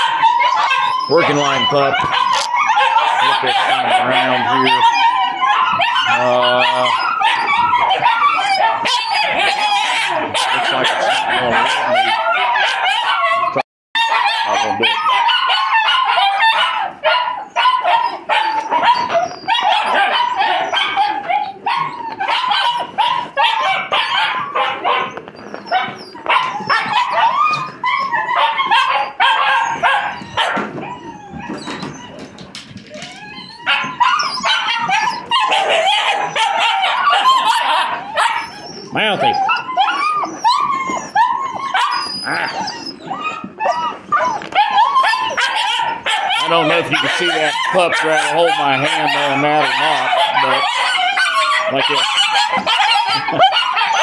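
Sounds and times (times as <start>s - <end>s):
puppies barking and yipping: 0.0s - 54.0s
puppies whimpering: 0.0s - 54.0s.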